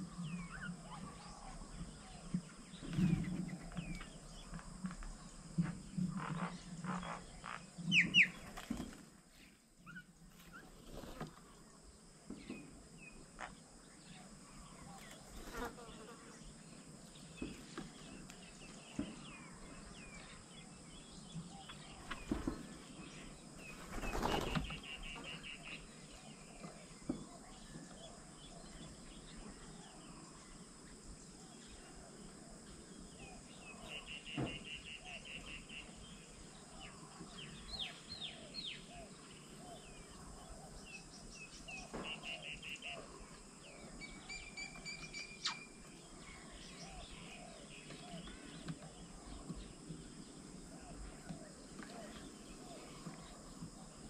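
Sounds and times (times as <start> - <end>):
birds chirping and trilling: 0.0 - 11.2, 12.3 - 54.0
high insect hum: 0.0 - 54.0.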